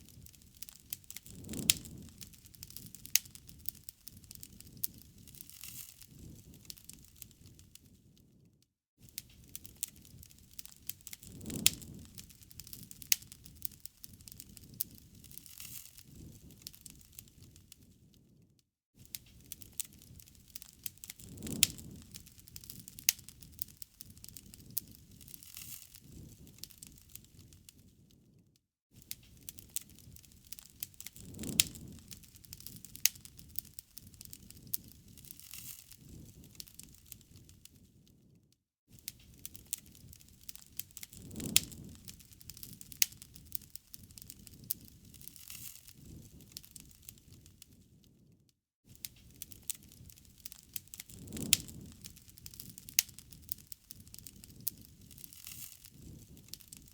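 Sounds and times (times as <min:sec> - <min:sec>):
wood fire crackling: 0:00.0 - 0:18.4, 0:19.0 - 0:28.4, 0:29.0 - 0:48.3, 0:48.9 - 0:56.9.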